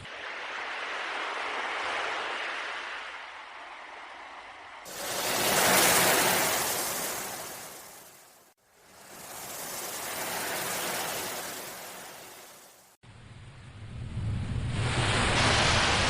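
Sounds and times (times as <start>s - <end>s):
sea waves washing in: 0.0s - 13.0s, 14.1s - 16.0s.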